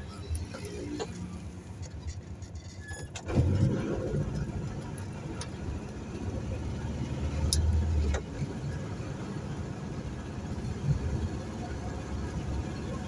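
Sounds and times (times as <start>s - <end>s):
car engine droning inside car: 0.0s - 13.0s.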